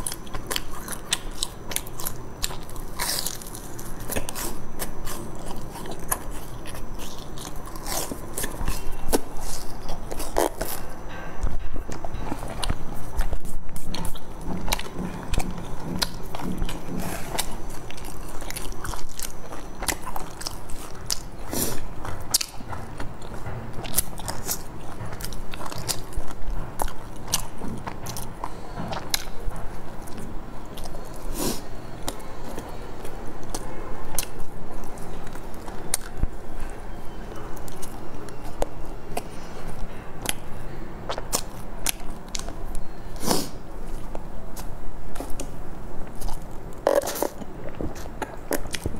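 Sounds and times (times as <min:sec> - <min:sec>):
chewing and biting bread: 0:00.0 - 0:48.9.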